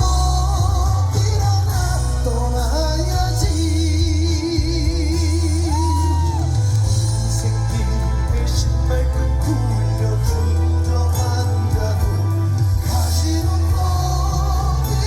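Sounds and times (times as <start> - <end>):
amplified backing track: 0.0 - 15.0
man singing with vibrato: 0.0 - 15.0.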